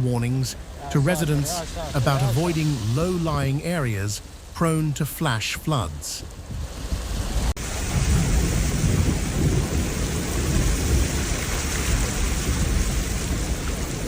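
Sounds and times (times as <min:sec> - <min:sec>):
pouring rain hiss: 0:00.0 - 0:14.0.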